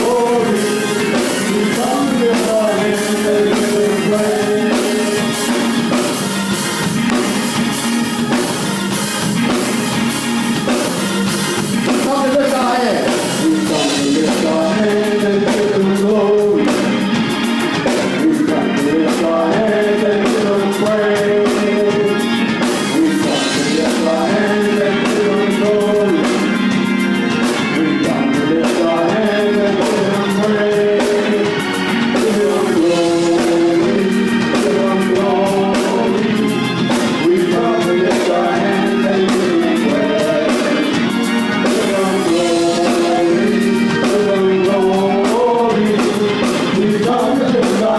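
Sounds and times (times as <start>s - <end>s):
instrumental accompaniment: 0.0s - 47.9s
voices singing worship song: 0.0s - 47.9s.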